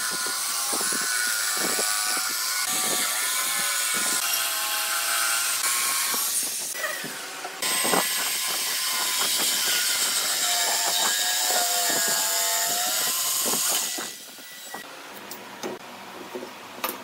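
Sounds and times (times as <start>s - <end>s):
electric jigsaw cutting wood: 0.0s - 14.8s.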